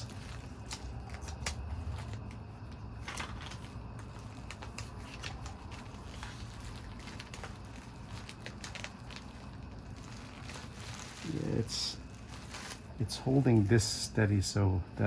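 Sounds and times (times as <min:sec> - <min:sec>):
tape peeling off with crackles: 0:00.0 - 0:13.7
steady low hum: 0:00.0 - 0:15.0.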